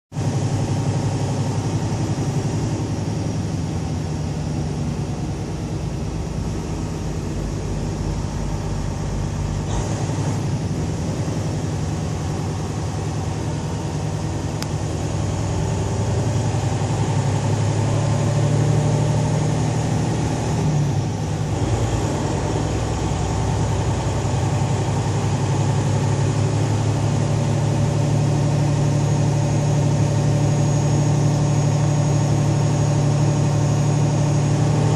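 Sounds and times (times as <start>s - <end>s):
diesel truck engine droning: 0.1s - 34.9s.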